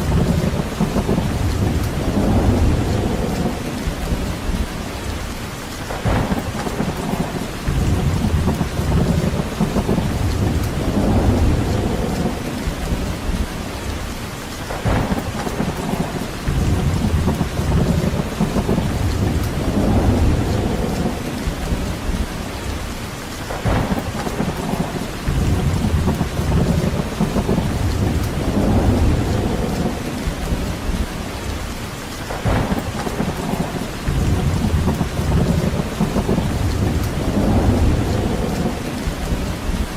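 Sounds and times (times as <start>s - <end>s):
low rumbling: 0.0s - 5.3s, 6.0s - 14.1s, 14.8s - 22.9s, 23.6s - 31.7s, 32.4s - 39.9s
rain hissing: 0.0s - 39.9s.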